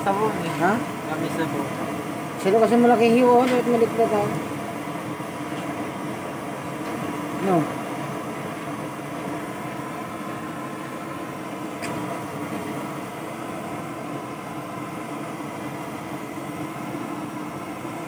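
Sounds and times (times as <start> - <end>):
gas burner flame roaring: 0.0 - 18.0.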